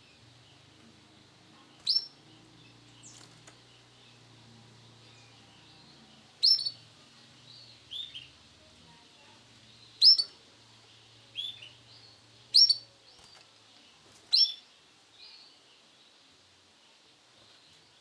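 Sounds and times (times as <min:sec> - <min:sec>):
canary chirping: 0:00.0 - 0:16.2.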